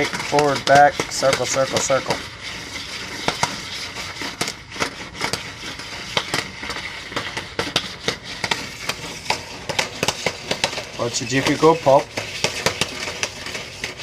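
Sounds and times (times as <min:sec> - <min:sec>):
popcorn popping: 0:00.0 - 0:14.0.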